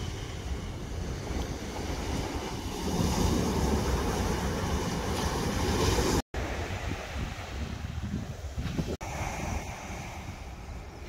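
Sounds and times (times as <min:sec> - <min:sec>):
ocean surf breaking on beach: 0:00.0 - 0:11.0
wind buffeting microphone: 0:00.0 - 0:11.0.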